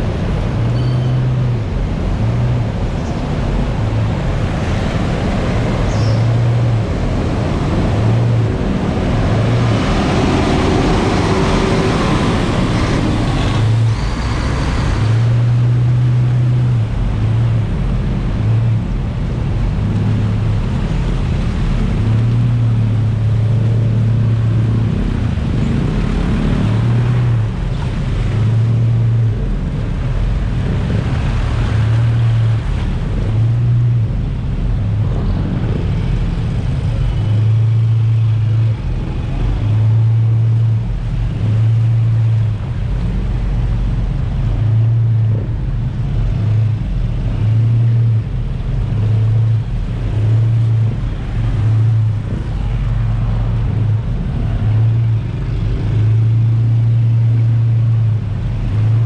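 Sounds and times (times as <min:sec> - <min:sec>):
jet ski engine: 0:00.0 - 0:59.0
wind buffeting microphone: 0:01.4 - 0:59.0
water splashing: 0:01.9 - 0:59.0.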